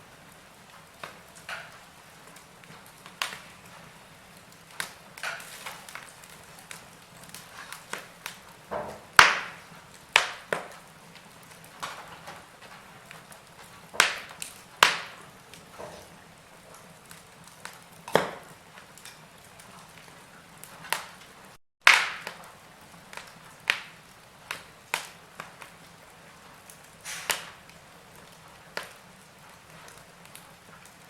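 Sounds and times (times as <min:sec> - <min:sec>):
soft steady hiss: 0:00.0 - 0:31.0
wood fire crackling and popping: 0:00.0 - 0:31.0.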